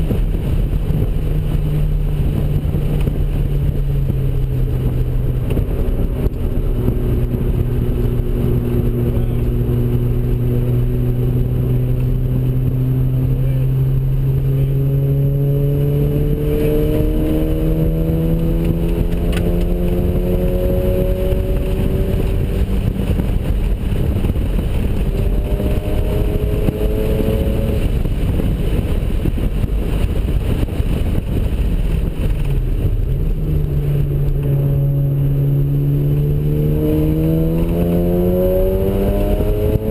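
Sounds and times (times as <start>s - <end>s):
rotary engine running hard: 0.0s - 39.9s.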